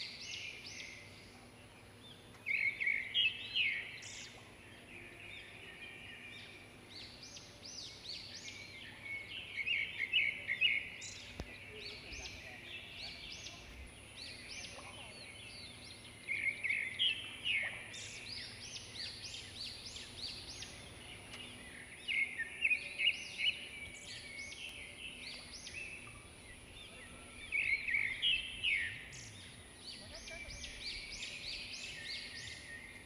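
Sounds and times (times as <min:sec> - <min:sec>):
birds chirping and singing: 0:00.0 - 0:33.0.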